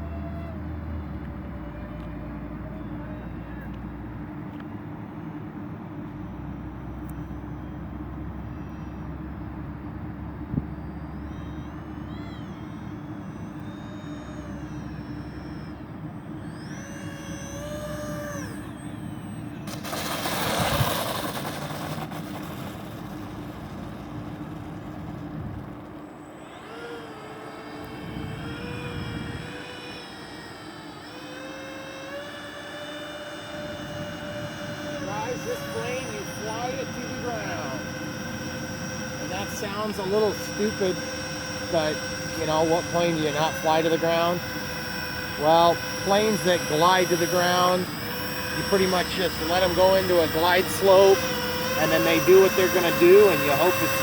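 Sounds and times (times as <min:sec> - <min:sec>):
electric ducted fan whine: 0:00.0 - 0:54.0
steady hum: 0:00.0 - 0:54.0
model plane rushing past: 0:10.4 - 0:54.0.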